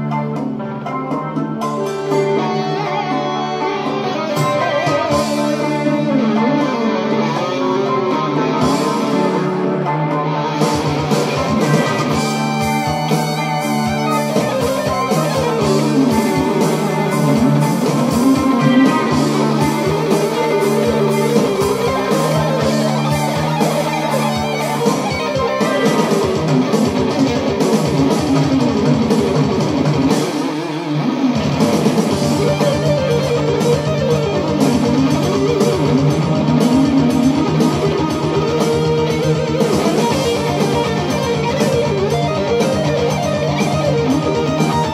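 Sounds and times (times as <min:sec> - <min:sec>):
electric guitar rock lead: 0:00.0 - 0:44.9.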